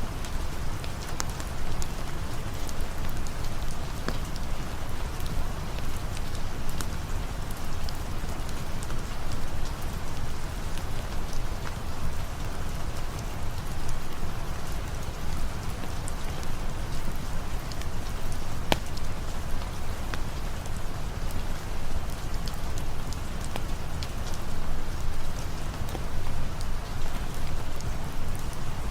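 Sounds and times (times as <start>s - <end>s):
steady rain: 0.0s - 28.9s
campfire crackling: 0.1s - 28.9s.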